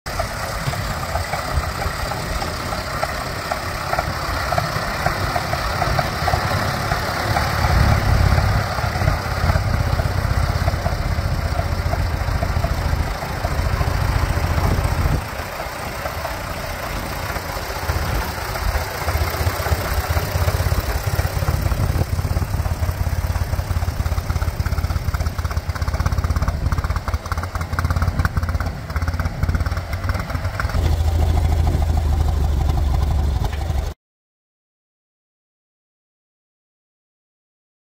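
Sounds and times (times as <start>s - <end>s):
tractor engine running: 0.1s - 34.0s.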